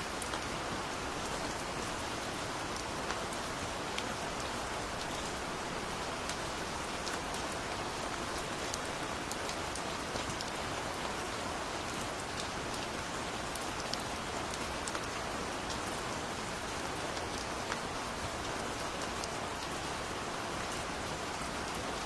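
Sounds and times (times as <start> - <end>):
gentle rain falling: 0.0 - 22.0.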